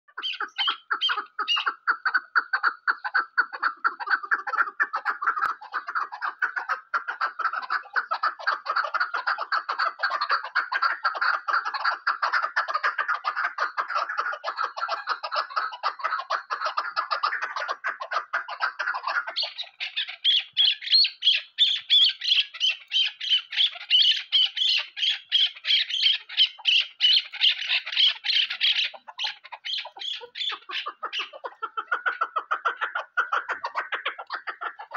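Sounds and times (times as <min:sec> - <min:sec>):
partridge calling rapid chuck notes: 0:00.1 - 0:34.9.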